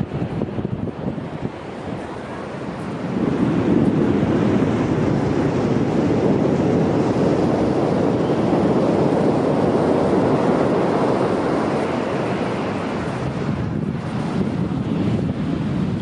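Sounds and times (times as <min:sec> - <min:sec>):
ocean waves breaking on beach: 0:00.0 - 0:16.0.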